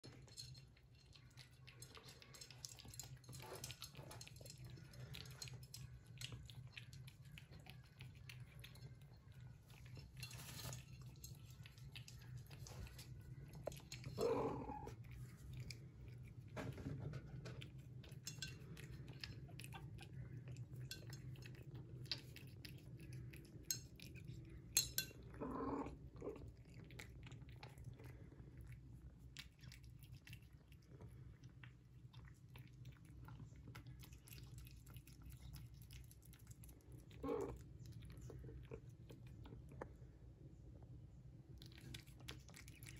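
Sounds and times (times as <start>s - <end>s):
cats crunching dry kibble: 0.0s - 40.2s, 41.3s - 42.9s.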